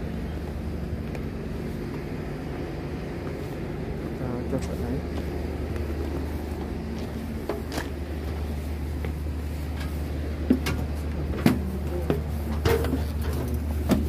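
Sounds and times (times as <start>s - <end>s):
diesel train droning: 0.0s - 14.0s
footsteps on metal floor: 0.4s - 14.0s.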